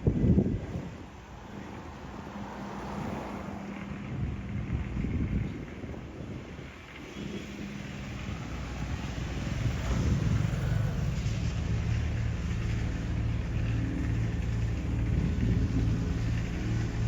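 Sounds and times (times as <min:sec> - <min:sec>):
motor engine humming: 0:00.1 - 0:17.0.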